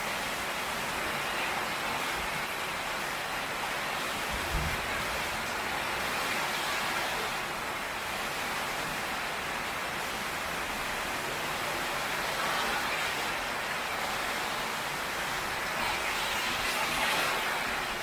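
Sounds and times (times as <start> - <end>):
rain on a tin roof: 0.0 - 18.0.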